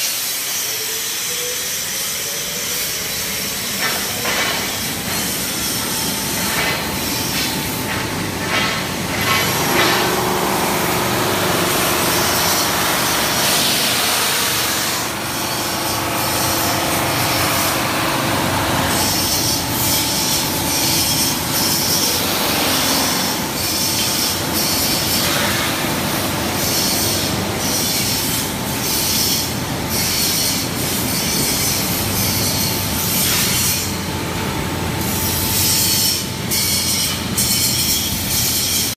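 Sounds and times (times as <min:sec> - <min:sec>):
wood polishing machine running: 0:02.9 - 0:35.6.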